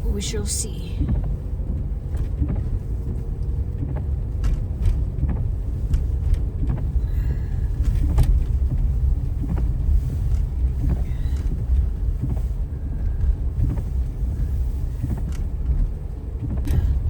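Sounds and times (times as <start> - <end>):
tyre and engine rumble: 0.0 - 17.0.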